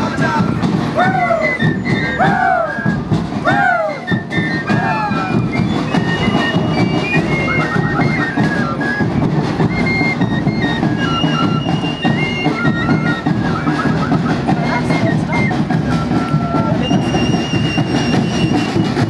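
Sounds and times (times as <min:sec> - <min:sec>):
flutes playing a melody: 0:00.0 - 0:19.0
steady drum beat: 0:00.0 - 0:19.0
street procession noise: 0:00.0 - 0:19.0.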